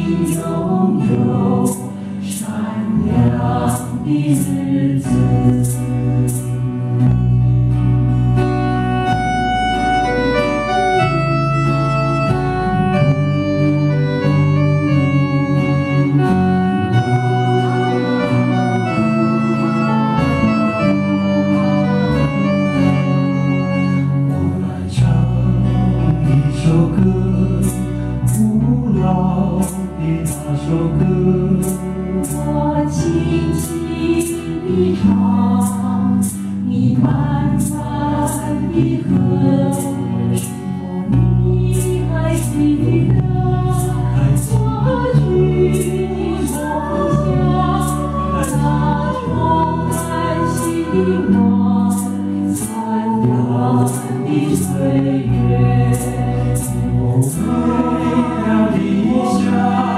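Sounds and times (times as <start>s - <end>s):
bass line: 0.0s - 59.9s
organ-like keyboard chords: 0.0s - 59.9s.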